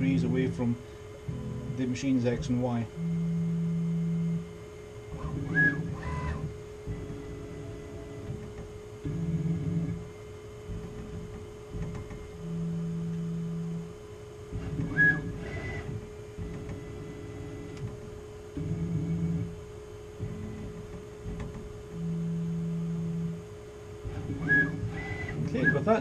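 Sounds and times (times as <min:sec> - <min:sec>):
motors whining: 0:00.0 - 0:13.9, 0:14.5 - 0:26.0
machine hum: 0:00.0 - 0:26.0.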